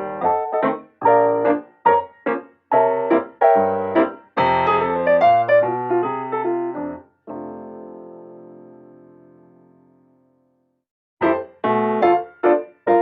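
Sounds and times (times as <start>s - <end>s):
piano music: 0.0s - 10.6s, 11.2s - 13.0s.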